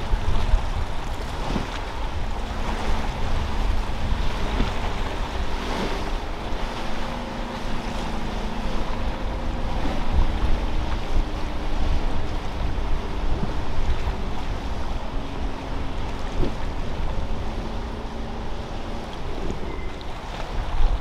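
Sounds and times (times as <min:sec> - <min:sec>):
motorboat engines humming: 0:00.0 - 0:21.0
waves washing: 0:00.0 - 0:21.0
wind buffeting microphone: 0:00.0 - 0:21.0.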